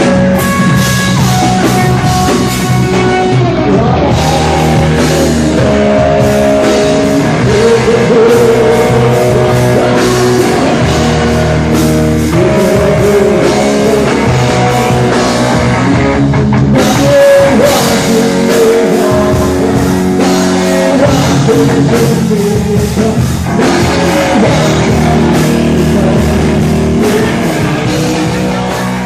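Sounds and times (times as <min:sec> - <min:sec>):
pitch-bending melody line: 0:00.0 - 0:29.0
rock band playing: 0:00.0 - 0:29.0.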